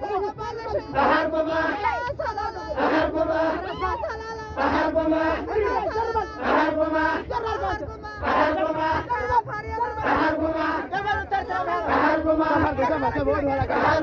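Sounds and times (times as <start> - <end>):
men singing a chant in unison: 0.0 - 14.0.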